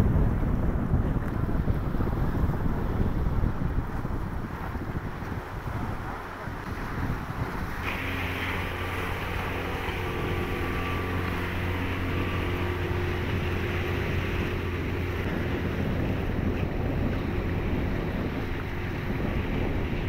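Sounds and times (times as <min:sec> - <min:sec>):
water rushing: 0:00.0 - 0:20.0
wind on microphone: 0:00.0 - 0:20.0
outboard motor running: 0:00.1 - 0:20.0.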